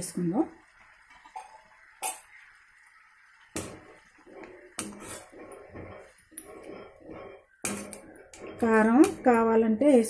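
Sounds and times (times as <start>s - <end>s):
spoon stirring in metal pan: 0.8s - 9.8s.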